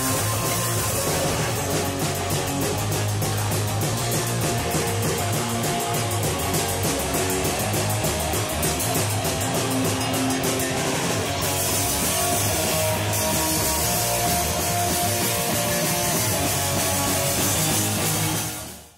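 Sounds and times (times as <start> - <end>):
ska band playing: 0.0 - 18.9.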